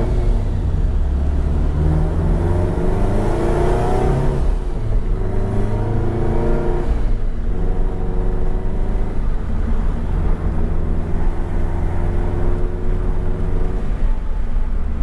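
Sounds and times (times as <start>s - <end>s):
car engine with loud exhaust: 0.0s - 15.0s.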